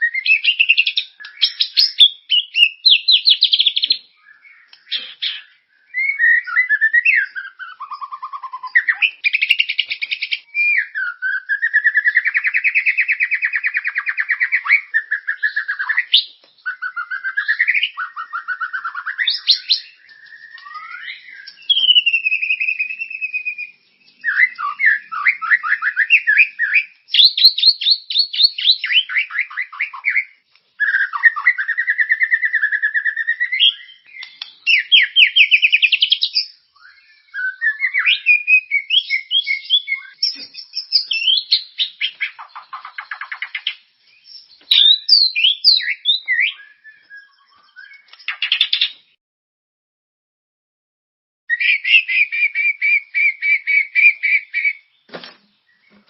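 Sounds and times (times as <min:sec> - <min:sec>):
songbird singing varied phrases: 0:00.0 - 0:49.2, 0:51.5 - 0:56.0.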